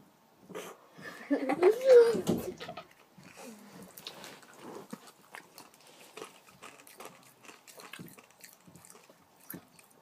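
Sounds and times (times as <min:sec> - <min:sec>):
boy eating with mouth smacks: 0:01.7 - 0:10.0.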